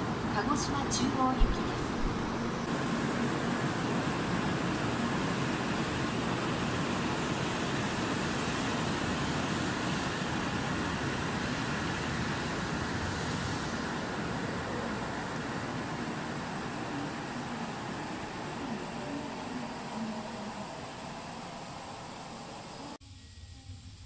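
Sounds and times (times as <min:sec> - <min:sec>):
faint high whine: 0:00.0 - 0:24.0
train running noise: 0:00.0 - 0:24.0.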